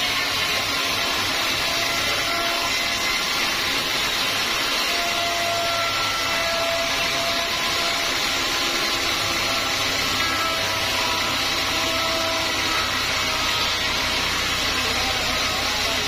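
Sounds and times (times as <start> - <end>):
band saw cutting through log: 0.0 - 16.0.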